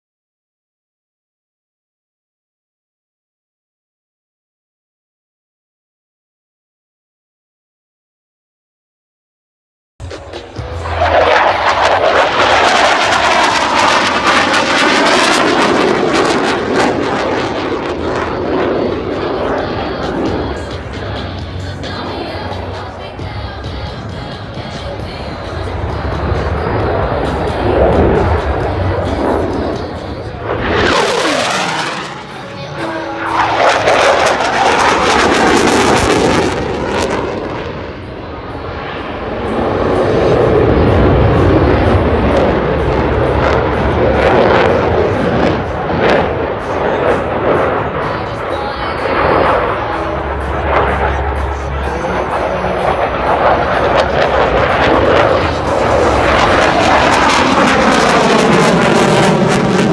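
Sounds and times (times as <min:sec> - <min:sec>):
jet roar overhead: 0:10.0 - 0:59.9.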